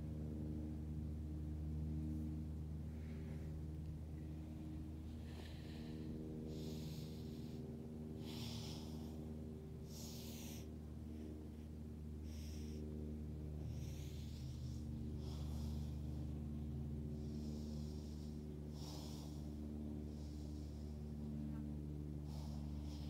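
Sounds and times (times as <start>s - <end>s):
steady low drone: 0.0s - 23.0s
person breathing: 2.8s - 23.0s.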